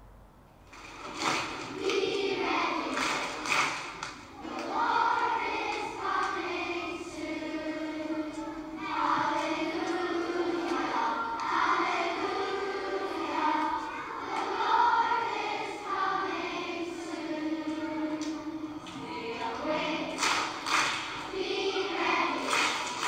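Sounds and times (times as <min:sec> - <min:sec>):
choir singing a slow hymn: 0:01.6 - 0:23.0.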